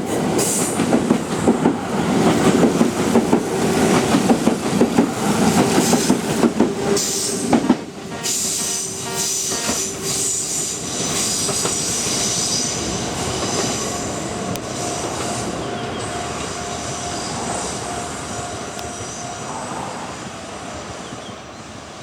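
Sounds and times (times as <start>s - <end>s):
high whine from train wheels: 0.0s - 21.8s
electric train running on rails: 0.0s - 22.0s.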